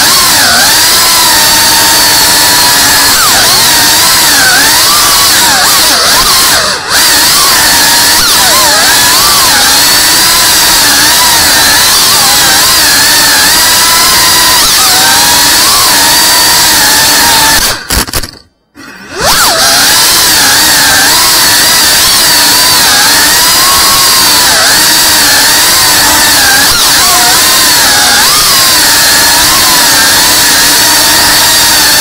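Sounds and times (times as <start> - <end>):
drone motors whining: 0.0 - 32.0.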